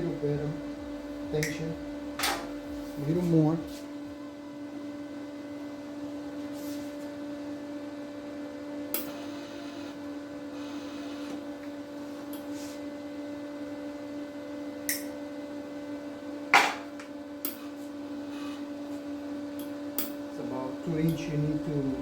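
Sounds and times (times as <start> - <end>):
welder hum: 0.0 - 22.0.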